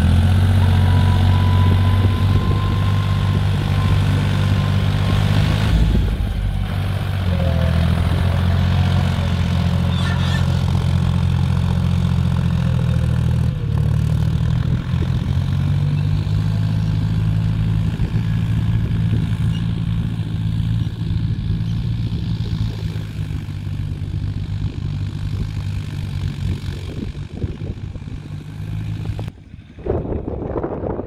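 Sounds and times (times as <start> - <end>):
tractor engine running under load: 0.0 - 31.0.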